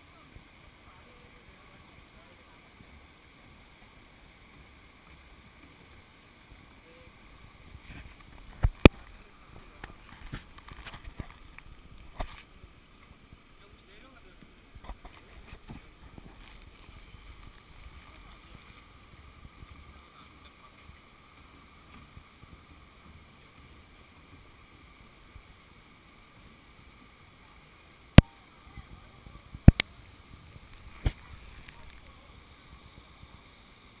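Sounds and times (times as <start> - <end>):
moving water washing: 0.0 - 34.0.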